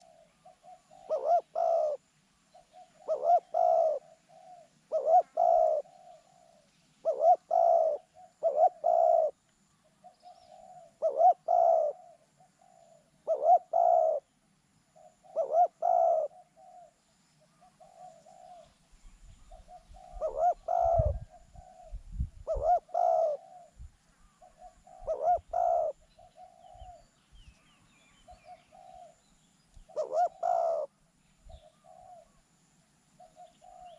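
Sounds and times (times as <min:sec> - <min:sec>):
dove cooing: 0:00.0 - 0:14.3, 0:14.9 - 0:18.8, 0:19.4 - 0:27.1, 0:28.2 - 0:29.2, 0:29.9 - 0:32.4, 0:33.2 - 0:33.9.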